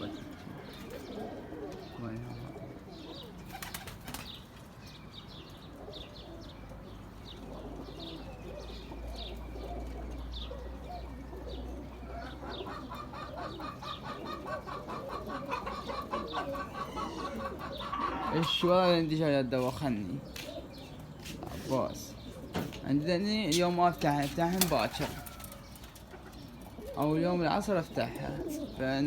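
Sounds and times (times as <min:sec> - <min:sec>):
pigeon cooing: 0:00.0 - 0:04.4, 0:05.7 - 0:29.0.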